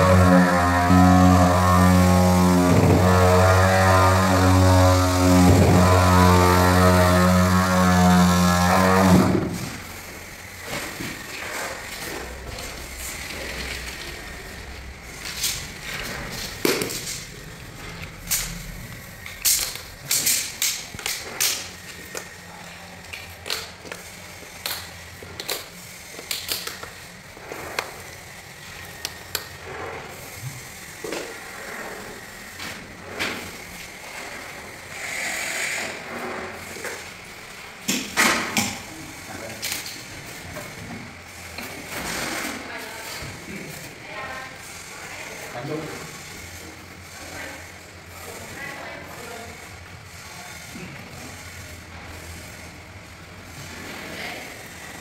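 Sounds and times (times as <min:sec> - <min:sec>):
tile vibrator humming: 0:00.0 - 0:55.0.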